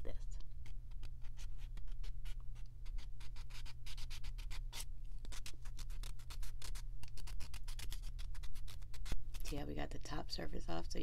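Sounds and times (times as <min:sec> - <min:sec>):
nail file scraping fingernail: 0:00.6 - 0:09.6.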